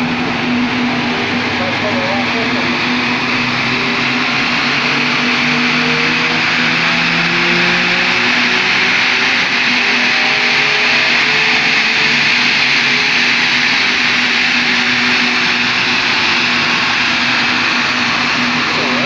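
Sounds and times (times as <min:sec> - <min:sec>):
tyres roaring on dyno rollers: 0:00.0 - 0:19.0.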